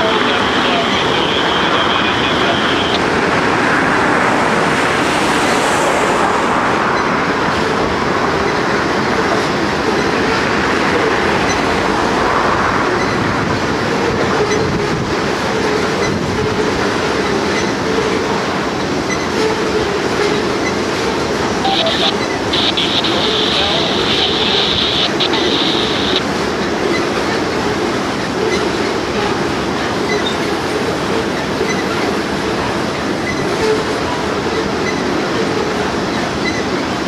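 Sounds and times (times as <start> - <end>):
freight train rolling past: 0.0 - 37.0
steel wheels on rails: 7.0 - 37.0.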